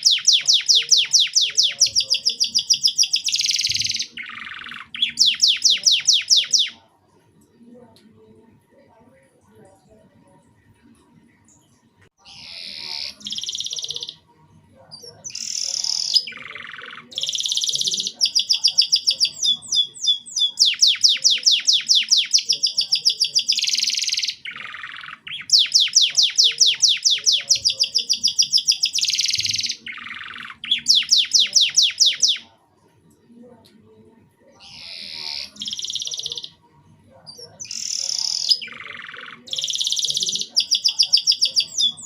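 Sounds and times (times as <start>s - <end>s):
canary singing trills: 0.0s - 6.8s, 12.2s - 14.2s, 14.8s - 32.5s, 34.4s - 42.0s.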